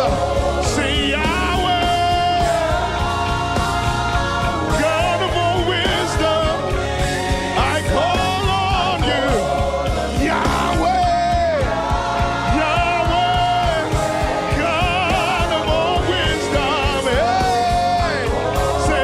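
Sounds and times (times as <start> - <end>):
drums steady beat: 0.0 - 19.0
gospel band music: 0.0 - 19.0.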